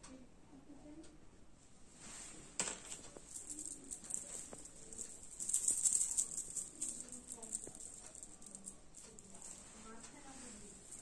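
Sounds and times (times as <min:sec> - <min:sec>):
fabric rustling and clicks: 0:02.0 - 0:11.0.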